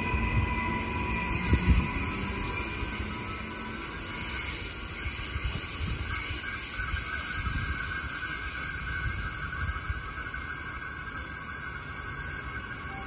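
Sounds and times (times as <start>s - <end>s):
constant hiss: 0.0s - 13.0s
electric train rumble: 0.0s - 13.0s
faint steady tone: 0.0s - 13.0s.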